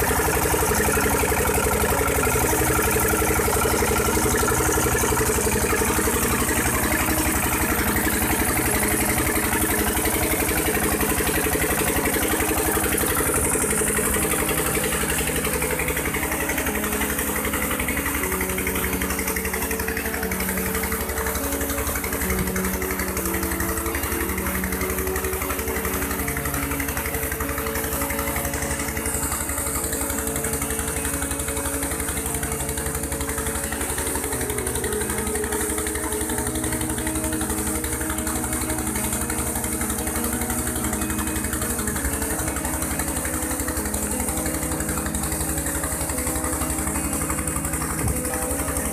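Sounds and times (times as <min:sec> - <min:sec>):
diesel engine running under load: 0:00.0 - 0:48.9
water gushing from pipe: 0:00.0 - 0:48.9.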